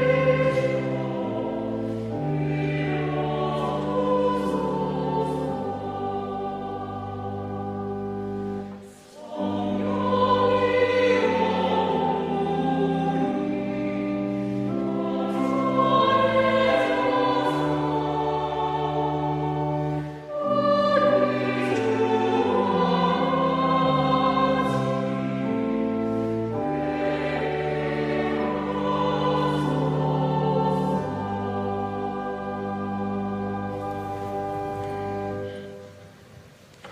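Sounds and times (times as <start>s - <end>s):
choir singing a hymn: 0.0s - 36.1s
pipe organ: 0.0s - 36.1s.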